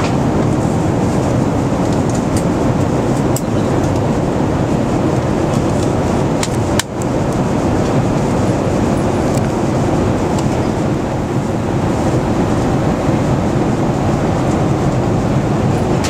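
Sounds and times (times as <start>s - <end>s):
airliner cabin engine roar: 0.0s - 16.0s.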